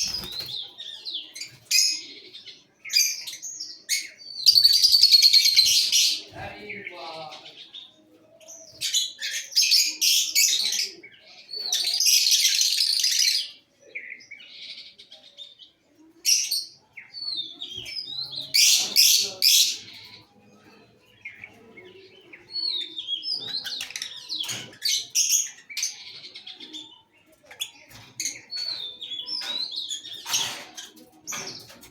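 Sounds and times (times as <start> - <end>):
lovebirds chirping and screeching: 0.0 - 31.9.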